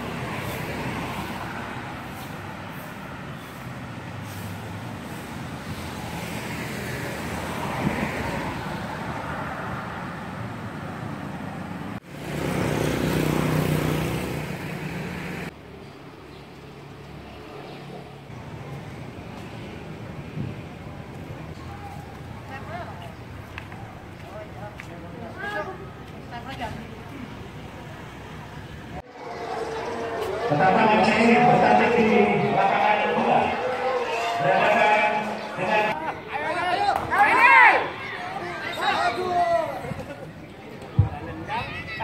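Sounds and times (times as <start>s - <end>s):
street traffic passing: 0.0s - 42.0s.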